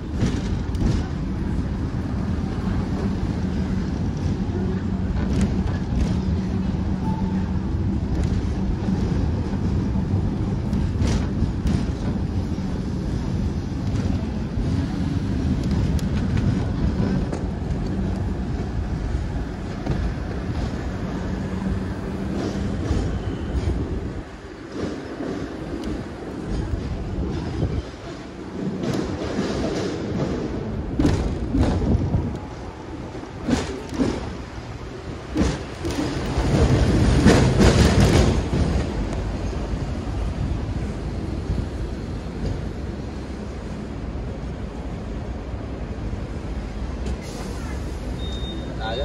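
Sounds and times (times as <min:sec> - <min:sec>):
tram rumbling and humming: 0:00.0 - 0:49.0.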